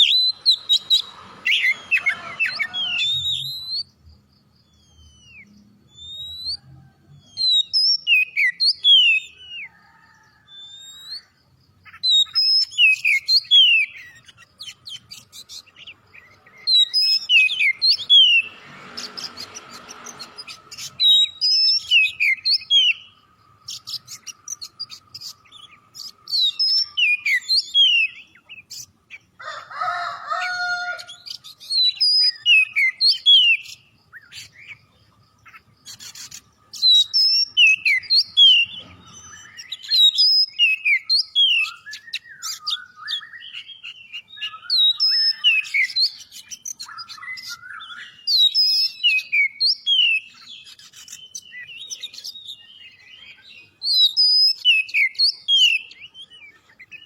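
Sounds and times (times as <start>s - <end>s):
songbird whistling song: 0.0s - 29.3s, 30.2s - 57.0s.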